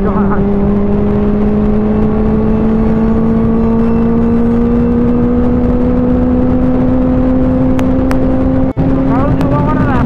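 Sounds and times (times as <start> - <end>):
motorcycle engine accelerating: 0.0 - 10.0
wind rushing over microphone: 0.0 - 10.0.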